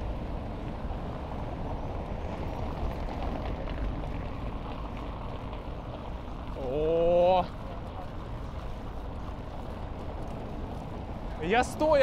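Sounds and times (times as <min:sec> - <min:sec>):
bicycle road rumble: 0:00.0 - 0:12.0.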